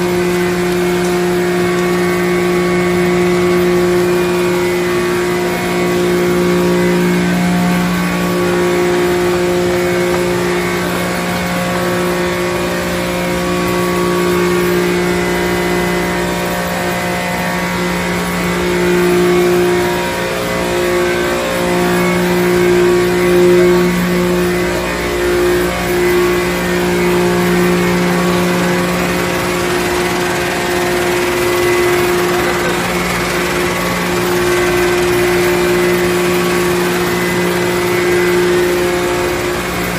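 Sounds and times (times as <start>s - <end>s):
motors and conveyors humming: 0.0s - 39.9s.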